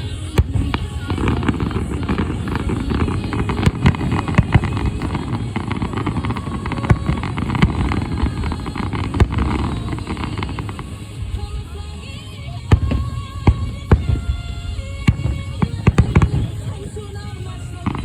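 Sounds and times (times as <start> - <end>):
fireworks crackling: 0.0 - 18.0
fireworks rumble: 0.0 - 18.0
fireworks sharp bangs: 0.0 - 18.0.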